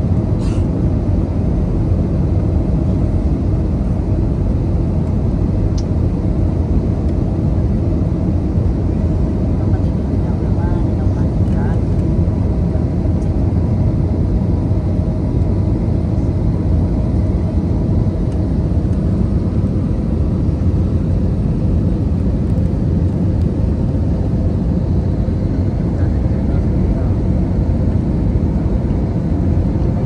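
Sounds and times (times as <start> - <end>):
jet engine hum in cabin: 0.0 - 30.0.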